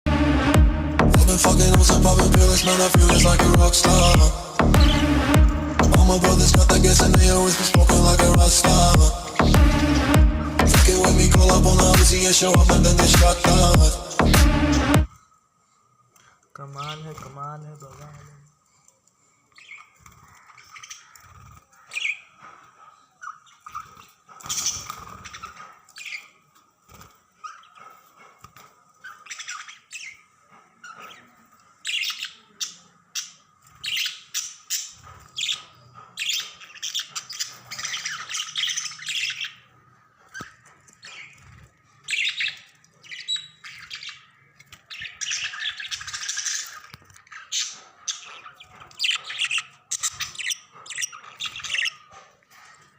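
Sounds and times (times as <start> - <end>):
budgerigars chirping and squawking: 0.5 - 15.1, 16.6 - 18.1, 19.6 - 26.4, 27.4 - 52.9.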